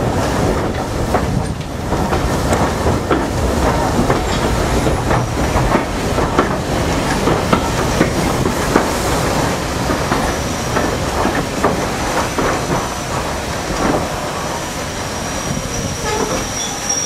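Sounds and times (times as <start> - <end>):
train rumble: 0.0 - 17.0
train wheels clicking over rail joints: 0.0 - 17.0.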